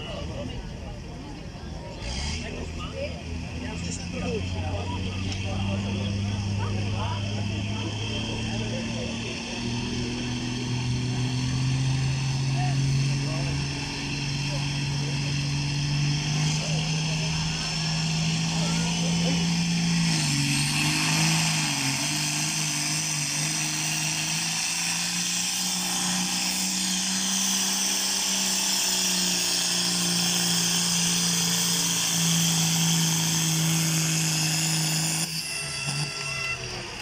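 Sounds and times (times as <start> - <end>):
tractor engine under heavy load: 0.0 - 37.0.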